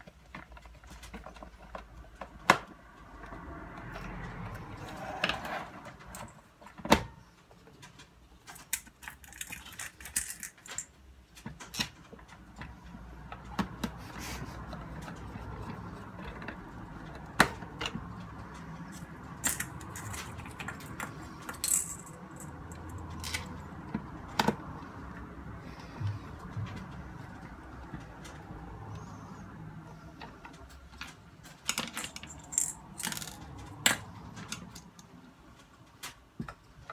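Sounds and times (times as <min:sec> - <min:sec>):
small parts and tools rattling: 0:00.0 - 0:06.8, 0:07.5 - 0:29.5, 0:30.1 - 0:36.9.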